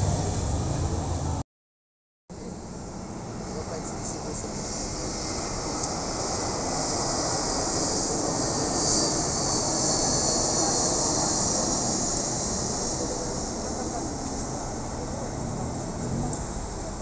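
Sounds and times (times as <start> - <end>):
jet engines passing overhead: 2.3 - 17.0.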